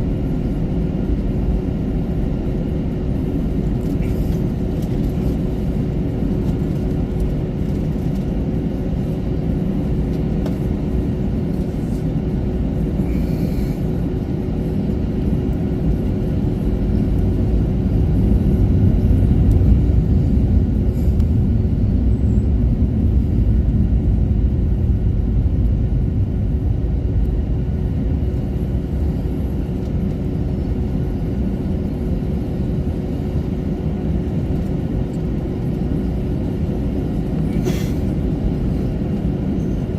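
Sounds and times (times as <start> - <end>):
aircraft cabin low rumble: 0.0 - 39.9
steady hum: 0.0 - 39.9.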